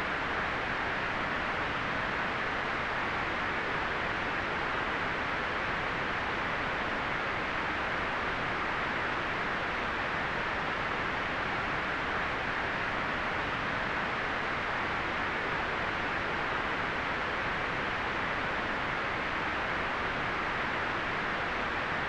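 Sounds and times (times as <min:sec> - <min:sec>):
steady white noise hiss: 0:00.0 - 0:22.0.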